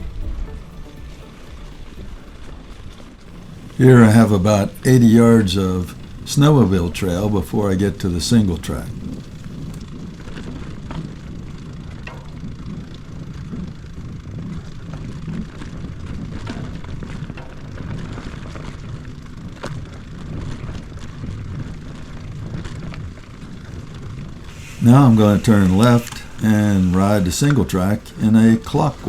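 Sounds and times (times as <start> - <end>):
bike tyres rumbling on dirt: 1.8 - 29.0.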